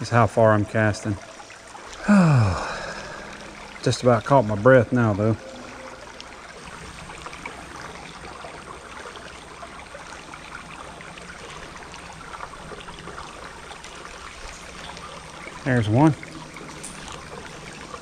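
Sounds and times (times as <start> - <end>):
creek water babbling over rocks: 0.0 - 18.0.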